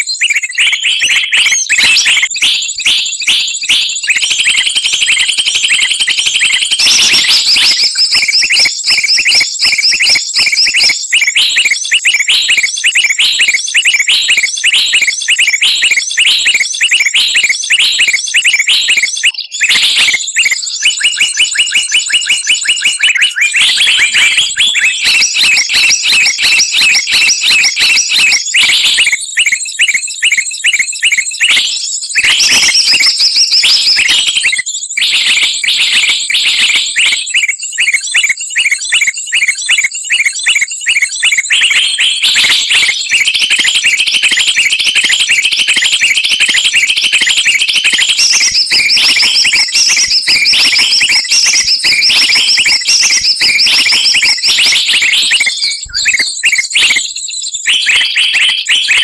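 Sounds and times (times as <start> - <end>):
songbirds chattering and chirping: 0.0 - 59.0.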